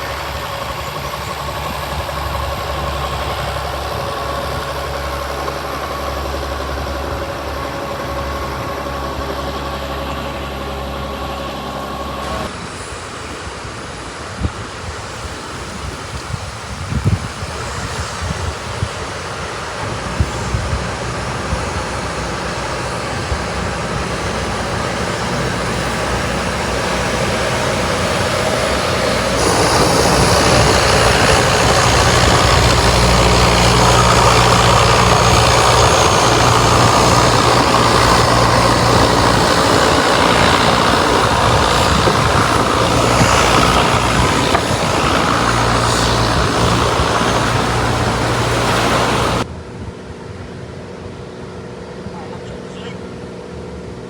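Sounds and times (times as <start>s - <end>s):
boat engine humming: 0.0s - 14.3s, 17.5s - 49.7s
water noise: 0.0s - 49.5s
heavy wind: 0.0s - 54.0s.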